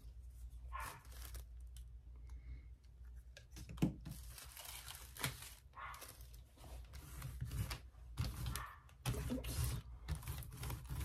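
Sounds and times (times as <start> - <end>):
paper rustles: 0.0 - 1.9, 4.0 - 11.0
paper crinkling: 0.0 - 2.0, 4.0 - 11.0.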